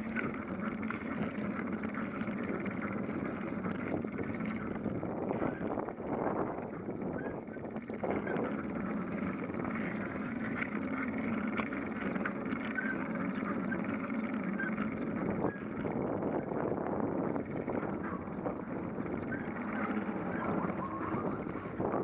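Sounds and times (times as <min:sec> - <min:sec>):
bicycle tyre and wind noise: 0:00.0 - 0:22.0
light rattling clicks: 0:00.0 - 0:22.0.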